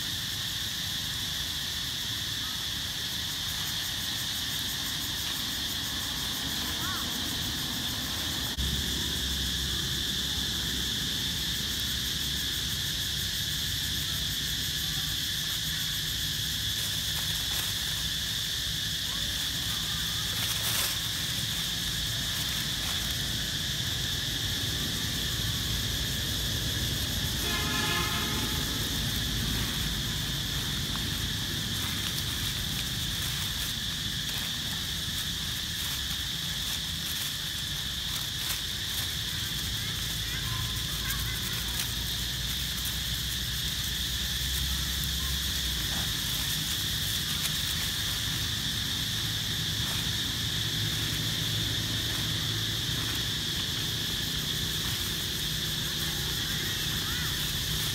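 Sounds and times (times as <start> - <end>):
high insect drone: 0.0 - 57.9.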